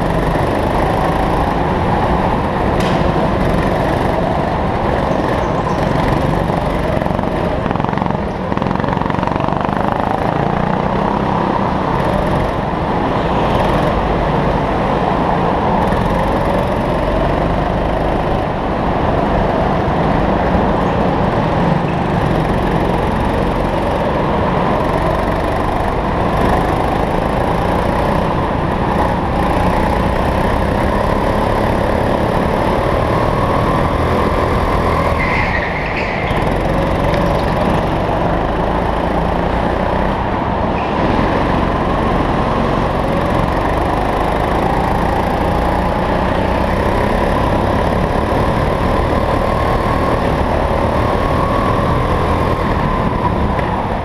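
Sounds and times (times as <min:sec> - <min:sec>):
go-kart engine revving: 0:00.0 - 0:54.0
other kart engines: 0:00.0 - 0:54.0.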